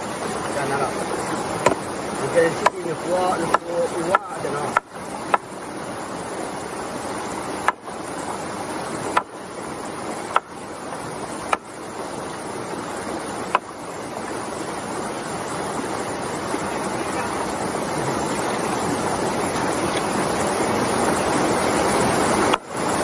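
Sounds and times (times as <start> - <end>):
shallow stream rushing: 0.0 - 23.0.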